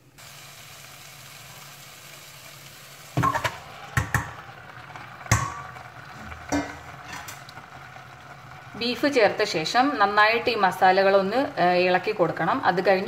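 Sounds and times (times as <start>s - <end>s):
masala sizzling in a pot: 0.0s - 13.0s.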